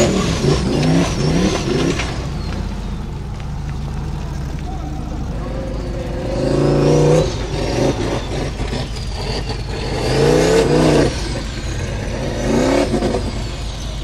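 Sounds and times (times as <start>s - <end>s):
buggy engine revving hard: 0.0s - 3.2s, 3.8s - 14.0s.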